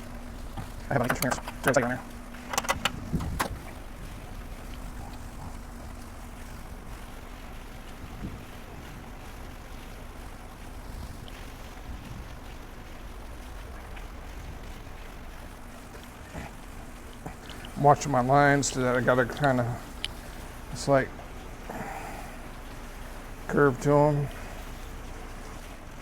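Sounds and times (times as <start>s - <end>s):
faint steady hum: 0.0s - 26.0s
low rumbling background noise: 0.0s - 26.0s.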